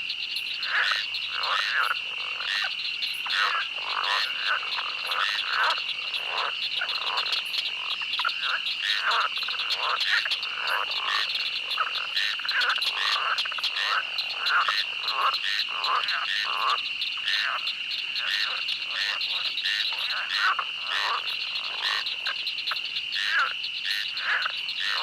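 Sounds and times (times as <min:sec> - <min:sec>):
frogs croaking: 0:00.0 - 0:25.0
insects trilling: 0:00.0 - 0:25.0.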